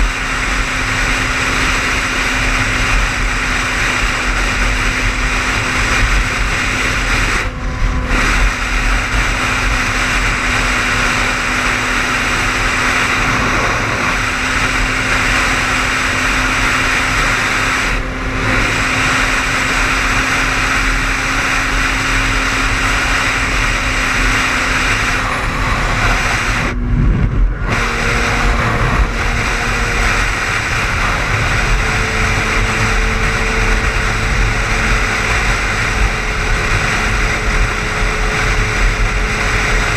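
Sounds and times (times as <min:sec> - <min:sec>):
car engine hum: 0:00.0 - 0:39.9
tyre and road noise: 0:00.0 - 0:39.9.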